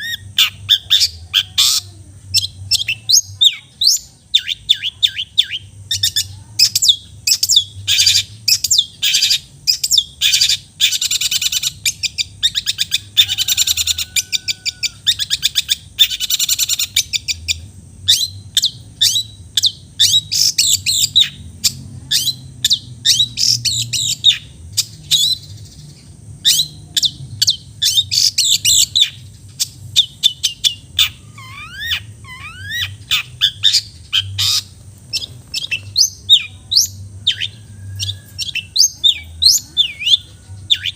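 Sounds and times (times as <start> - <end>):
bird singing chirps and chatter: 0.0 - 40.9.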